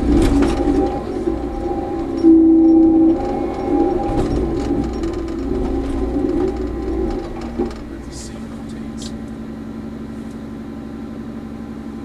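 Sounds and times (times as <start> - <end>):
diesel engine running: 0.0 - 12.0
loud steady whine: 0.0 - 12.0.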